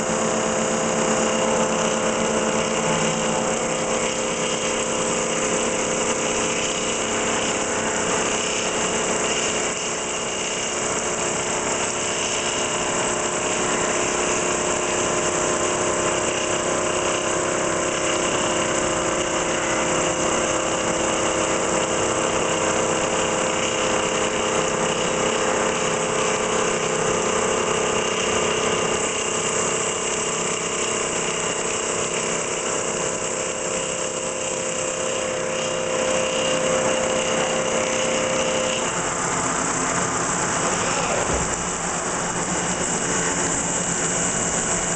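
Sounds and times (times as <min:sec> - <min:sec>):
coolant spray hiss: 0:00.0 - 0:44.9
milling machine hum: 0:00.0 - 0:44.9.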